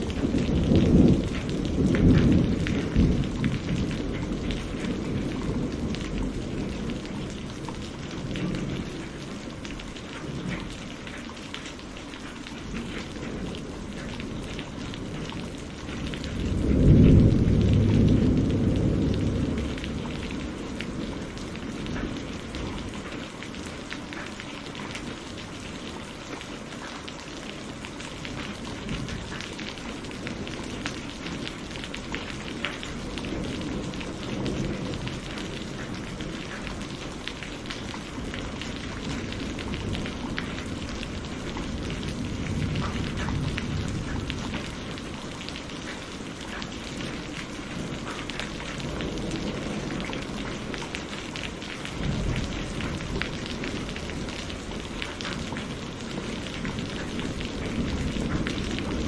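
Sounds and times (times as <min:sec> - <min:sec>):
rain pattering: 0:00.0 - 0:59.0
thunder rumbles: 0:00.0 - 0:59.0.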